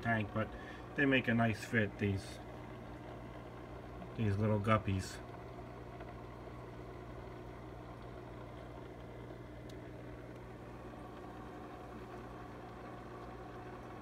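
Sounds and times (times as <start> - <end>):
aquarium equipment electric hum: 0.0 - 14.0.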